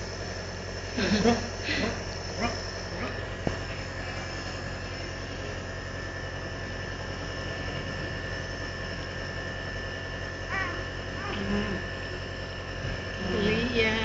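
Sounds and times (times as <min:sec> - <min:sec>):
nebulizer compressor humming: 0:00.0 - 0:14.0.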